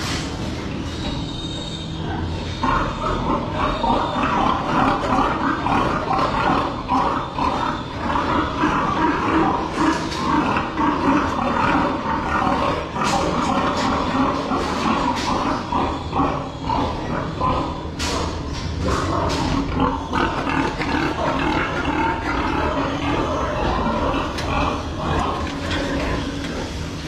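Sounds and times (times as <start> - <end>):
pigs calling in chorus: 0.0 - 27.0.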